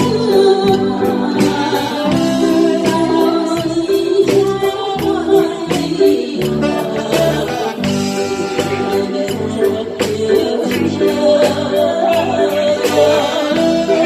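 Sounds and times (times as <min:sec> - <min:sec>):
backing music with steady beat: 0:00.0 - 0:14.0
person singing: 0:00.0 - 0:14.0.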